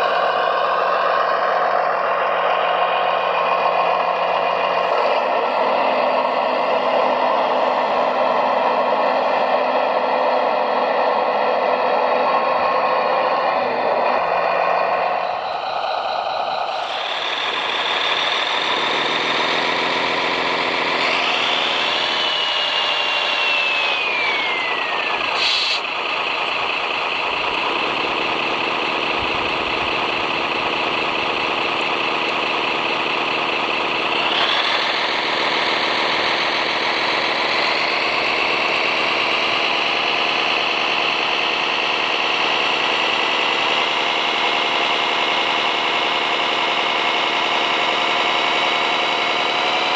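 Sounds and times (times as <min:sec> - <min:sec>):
motor whine: 0:00.0 - 0:49.9
toy vehicle engine drone: 0:00.0 - 0:49.9.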